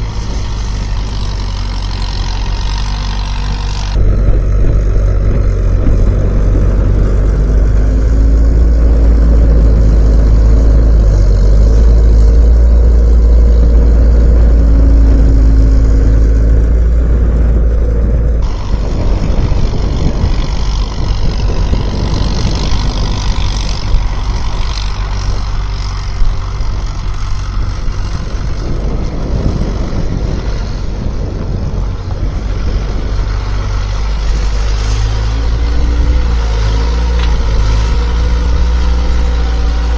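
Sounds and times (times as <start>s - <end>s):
skid steer engine rumbling: 0.0s - 39.9s.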